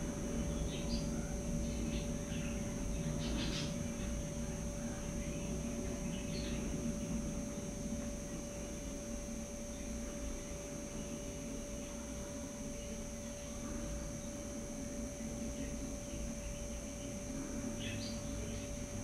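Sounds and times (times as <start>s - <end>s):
electrical hum with pitched tone: 0.0s - 19.0s.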